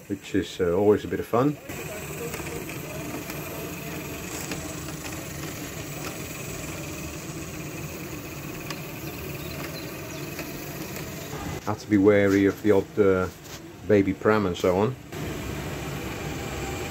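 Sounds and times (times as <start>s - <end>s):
model steam engine running: 0.0s - 16.9s.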